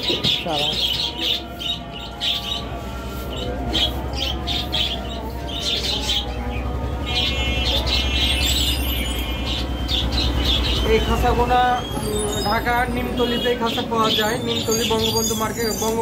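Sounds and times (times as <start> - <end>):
cage birds chirping: 0.0 - 16.0.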